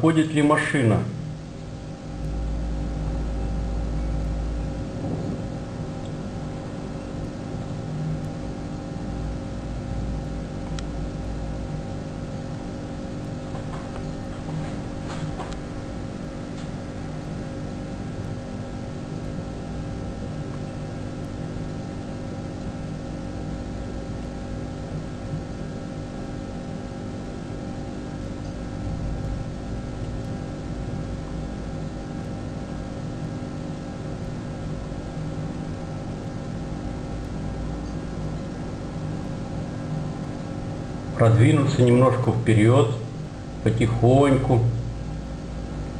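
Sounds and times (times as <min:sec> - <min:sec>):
mechanical hum with steady tones: 0:00.0 - 0:45.9.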